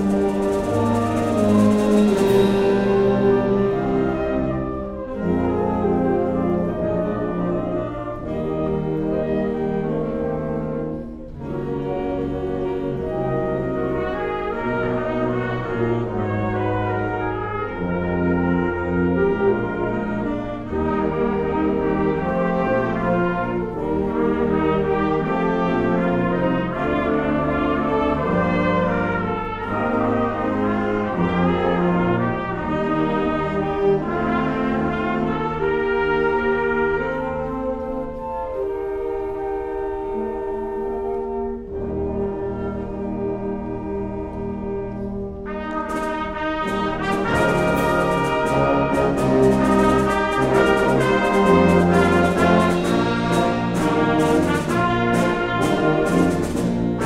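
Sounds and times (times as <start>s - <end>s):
symphonic band playing: 0.0s - 57.0s.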